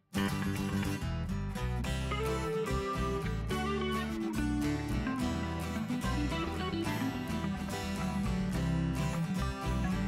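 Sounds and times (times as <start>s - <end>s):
strummed guitar music with beat: 0.0s - 10.0s.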